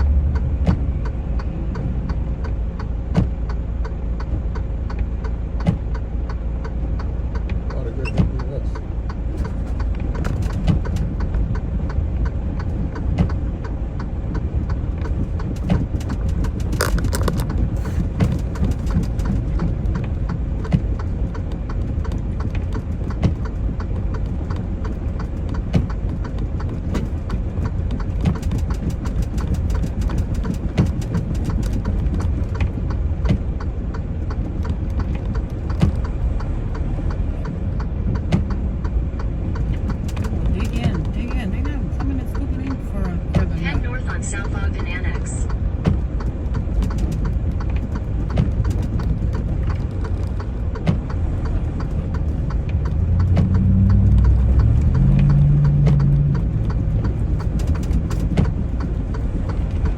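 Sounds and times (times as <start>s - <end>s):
diesel truck engine rumbling: 0.0s - 59.9s
sharp clicks and ticks: 0.0s - 59.9s.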